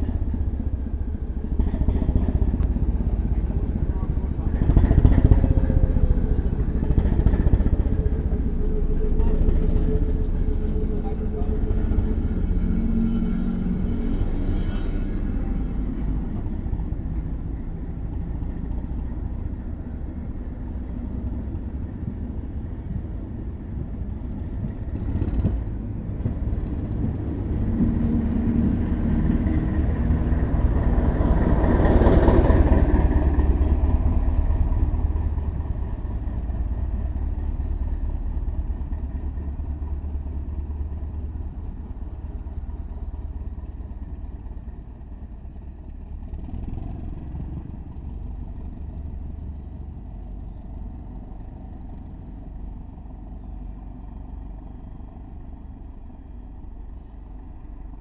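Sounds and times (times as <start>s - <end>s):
diesel train engine rumble: 0.0s - 58.0s
train wheel noise: 0.0s - 58.0s.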